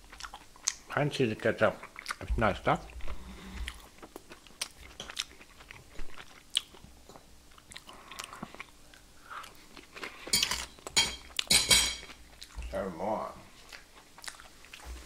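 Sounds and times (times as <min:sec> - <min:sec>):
person chewing food: 0:00.0 - 0:00.9, 0:01.7 - 0:12.8, 0:13.5 - 0:15.0.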